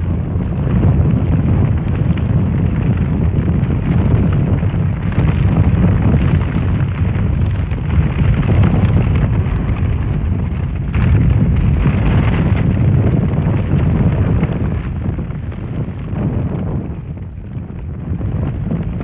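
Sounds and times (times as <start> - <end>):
wood fire roaring in kiln: 0.0 - 19.0.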